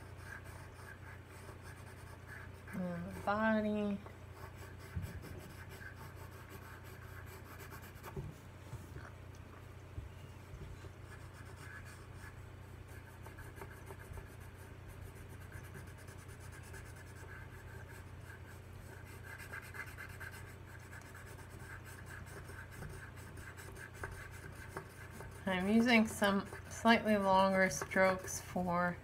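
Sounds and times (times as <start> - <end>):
pencil scratching on paper: 0.0 - 8.9, 10.7 - 28.7
low steady hum: 0.0 - 29.0.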